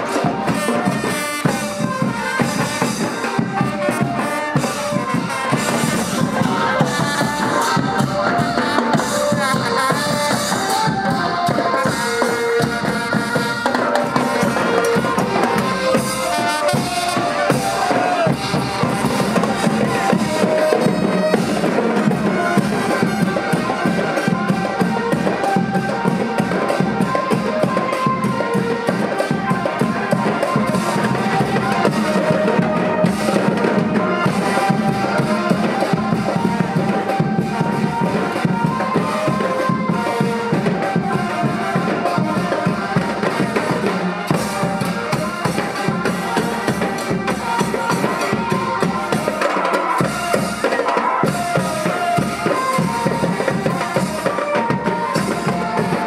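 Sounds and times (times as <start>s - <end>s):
drums beating dance rhythm: 0.0s - 56.0s
melody line: 1.8s - 50.5s.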